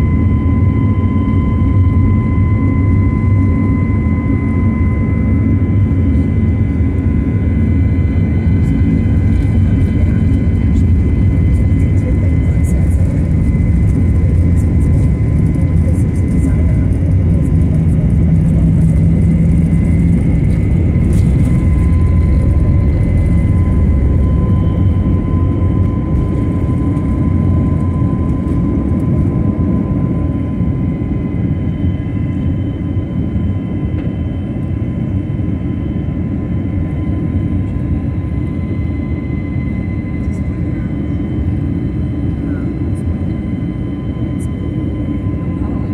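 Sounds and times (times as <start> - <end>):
jet engine high whine: 0.0 - 45.9
jet engines rumbling: 0.0 - 45.9.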